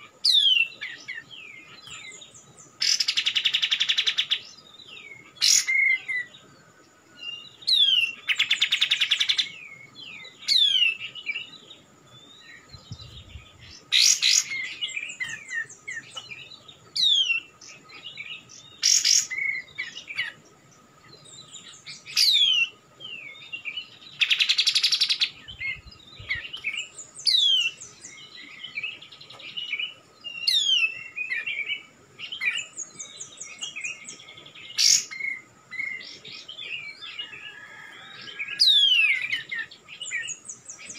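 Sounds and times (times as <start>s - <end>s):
harsh rattling bird calls: 0.0s - 40.9s.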